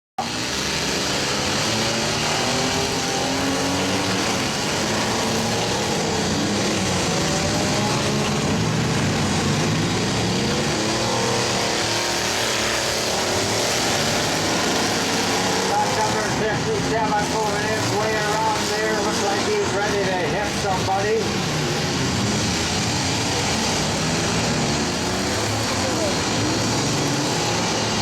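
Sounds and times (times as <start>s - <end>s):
vehicle engines revving: 0.2s - 28.0s.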